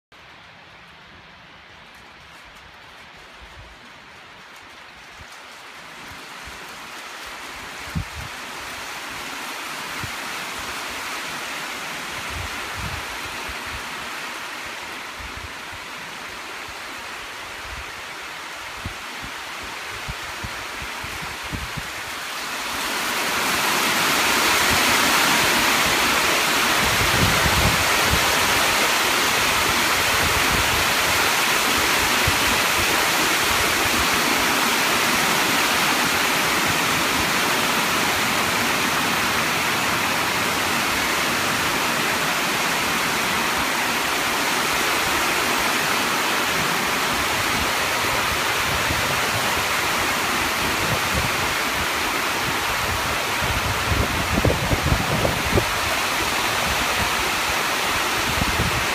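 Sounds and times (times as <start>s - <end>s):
heavy rain on lake surface: 0.1s - 58.9s.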